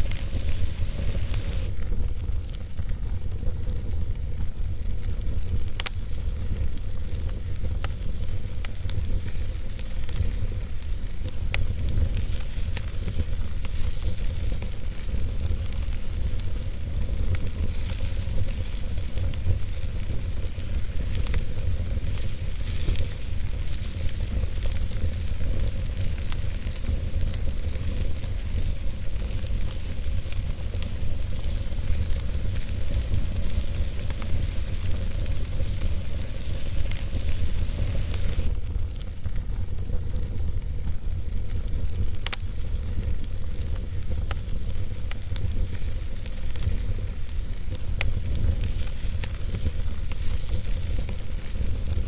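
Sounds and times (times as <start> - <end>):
fire crackling and popping: 0.0 - 52.0
fire low rumble: 0.0 - 52.0.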